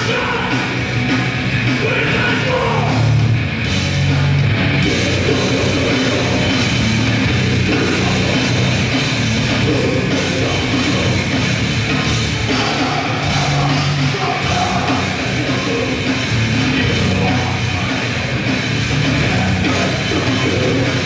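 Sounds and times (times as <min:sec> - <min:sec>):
drum kit pounding: 0:00.0 - 0:21.0
grindcore band playing live: 0:00.0 - 0:21.0.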